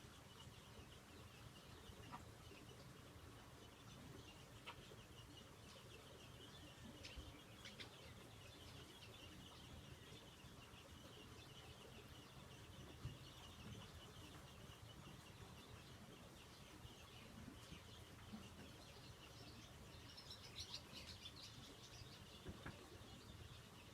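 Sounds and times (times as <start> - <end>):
low background hiss: 0.0 - 23.9
small birds chirping: 0.0 - 23.9.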